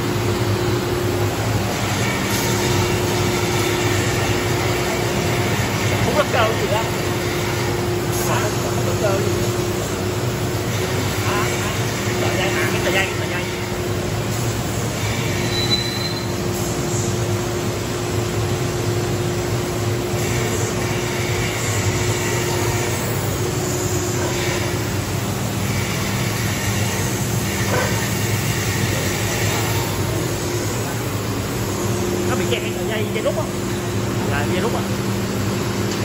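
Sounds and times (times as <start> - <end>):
laser cutting machine hum: 0.0 - 36.0.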